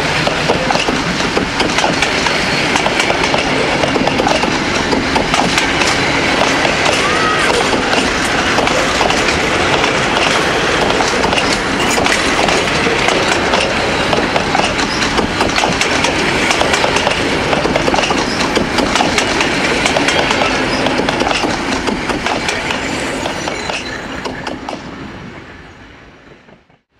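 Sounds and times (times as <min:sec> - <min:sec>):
train wheels clicking over rail joints: 0:00.0 - 0:24.9.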